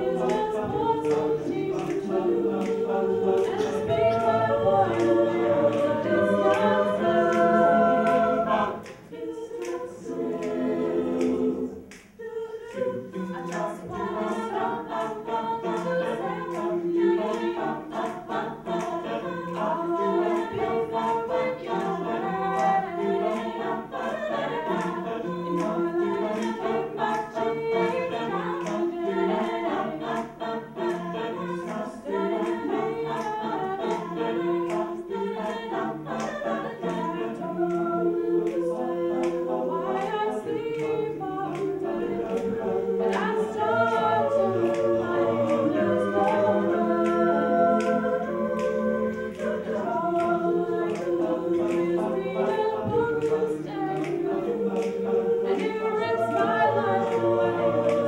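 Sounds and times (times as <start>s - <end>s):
mixed voices singing backing: 0.0s - 58.0s.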